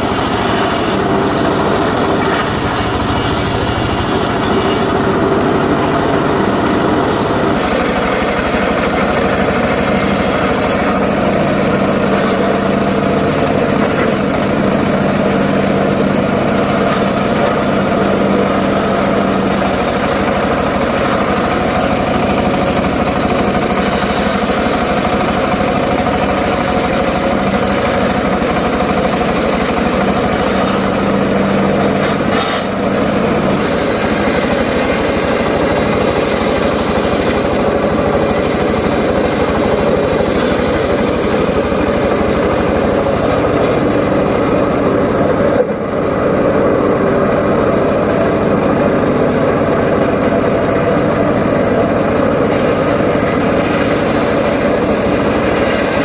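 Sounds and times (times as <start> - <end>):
circular saw engine running: 0.0 - 56.0.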